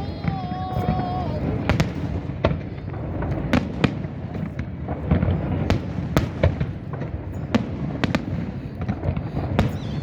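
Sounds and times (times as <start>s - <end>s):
fireworks bangs: 0.0s - 10.0s
low rumble of distant explosions: 0.0s - 10.0s.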